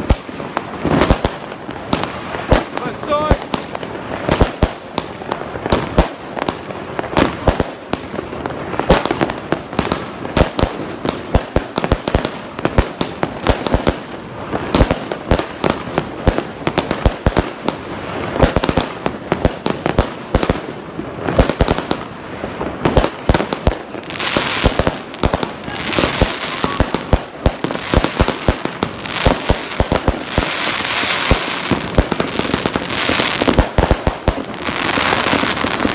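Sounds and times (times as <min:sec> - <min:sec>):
firework bangs: 0:00.0 - 0:35.9
hissing crackle of firework stars: 0:00.0 - 0:35.9.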